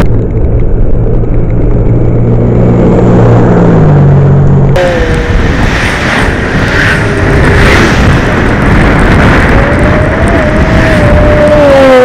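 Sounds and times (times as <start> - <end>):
steady whining tone: 0.0 - 12.0
wind rumbling on microphone: 0.0 - 12.0
car passing: 2.3 - 12.0.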